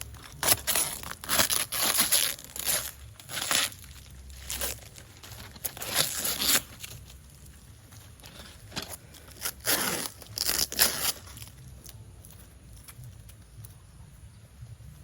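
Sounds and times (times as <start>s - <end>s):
packing tape tearing: 0.0s - 7.4s, 8.2s - 13.4s.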